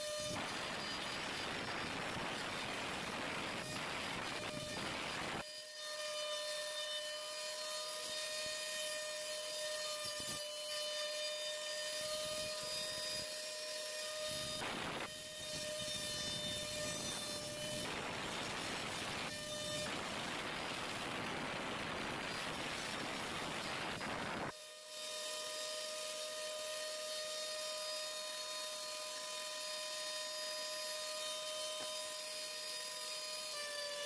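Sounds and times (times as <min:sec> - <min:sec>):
rasping cutting noise: 0:00.0 - 0:34.0
router spindle whine: 0:00.0 - 0:34.0.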